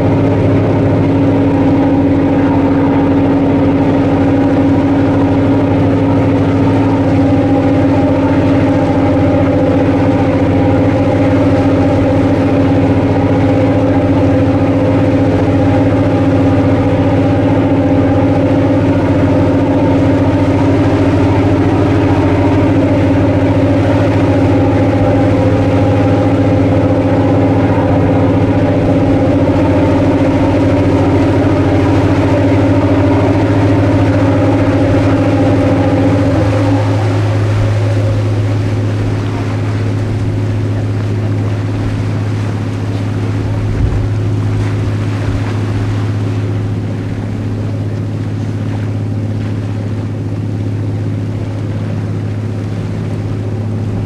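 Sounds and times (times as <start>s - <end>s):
ship engine low drone: 0.0s - 54.0s
wake water rushing: 0.0s - 54.0s
wind: 0.0s - 54.0s.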